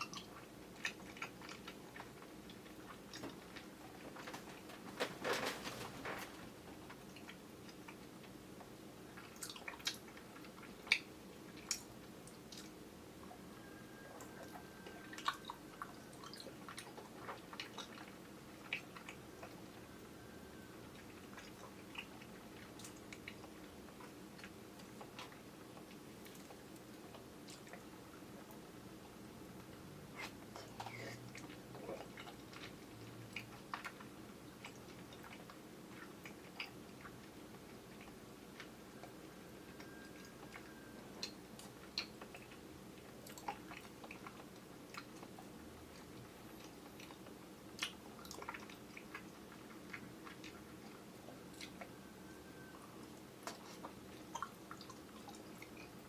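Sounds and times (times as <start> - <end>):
mouth chewing jelly: 0.0 - 4.8, 6.6 - 56.0.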